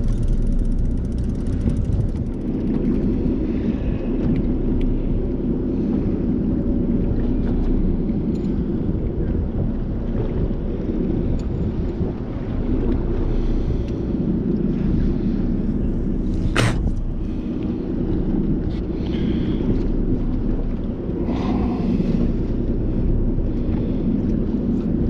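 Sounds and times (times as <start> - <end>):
boat engine rumble: 0.0 - 25.0
wind on microphone: 0.0 - 25.0.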